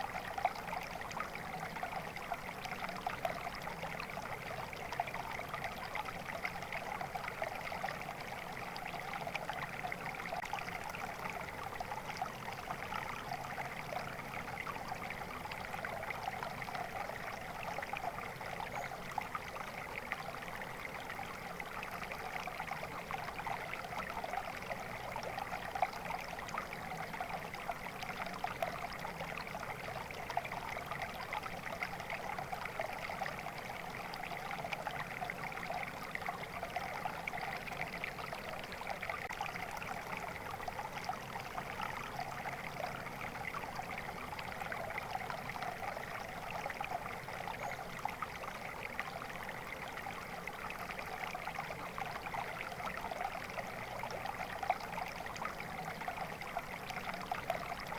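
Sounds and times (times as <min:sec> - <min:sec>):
stream water trickling: 0:00.0 - 0:57.9.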